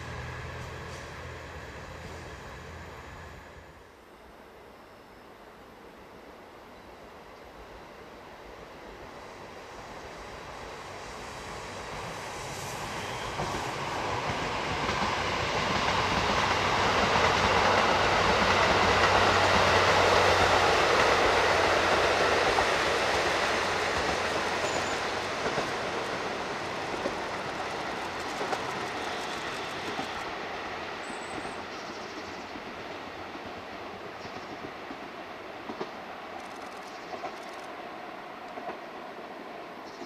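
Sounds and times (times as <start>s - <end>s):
diesel train running past: 0.0s - 40.0s.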